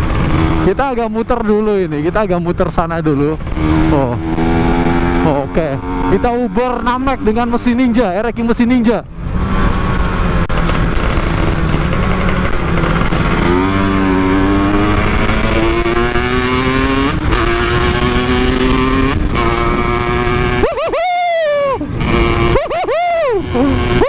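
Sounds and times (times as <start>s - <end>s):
two-stroke motorcycle engine accelerating: 0.0s - 24.0s.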